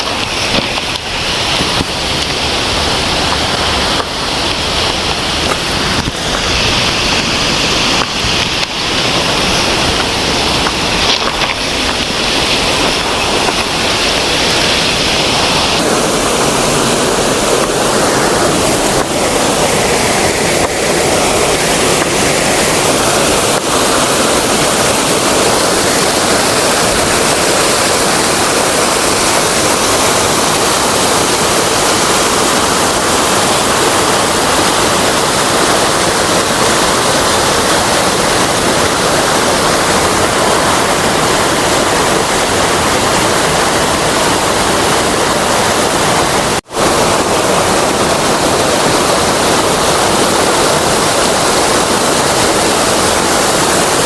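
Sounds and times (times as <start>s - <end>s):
high-pitched hiss: 0.0s - 54.0s
waterfall rushing: 0.0s - 54.0s.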